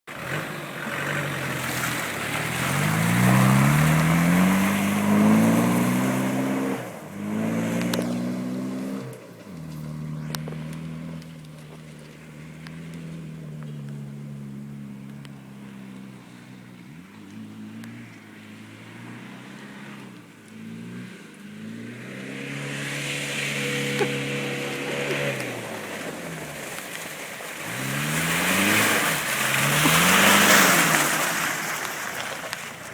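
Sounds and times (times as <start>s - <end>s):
diesel engine revving hard: 0.1s - 26.8s, 27.6s - 31.9s.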